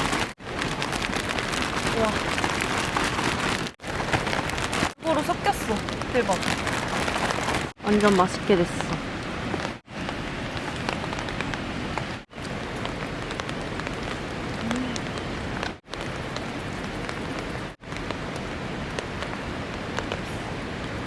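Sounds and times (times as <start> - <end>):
rain drops ticking: 0.0 - 21.0.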